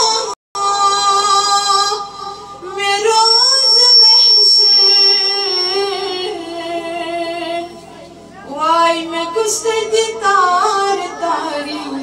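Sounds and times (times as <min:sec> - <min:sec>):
woman singing a hymn: 0:00.0 - 0:07.8, 0:08.4 - 0:12.0.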